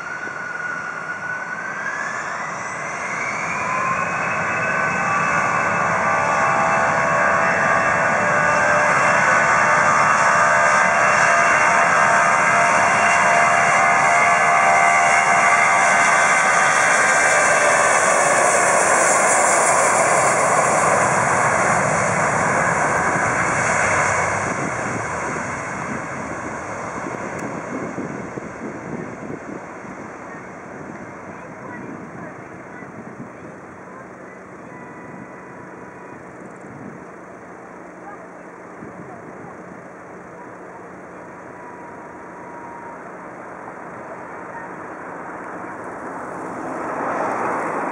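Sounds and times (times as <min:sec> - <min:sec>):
jet engine roar with whine: 0:00.0 - 0:47.9.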